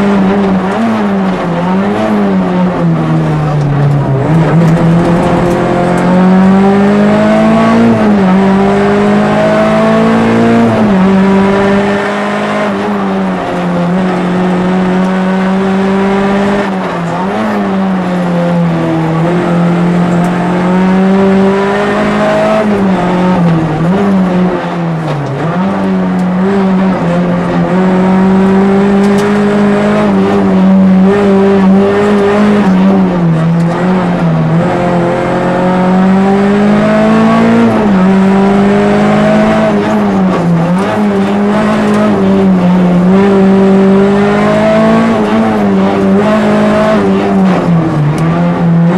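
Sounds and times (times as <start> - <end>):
car engine at high revs: 0.0 - 48.9.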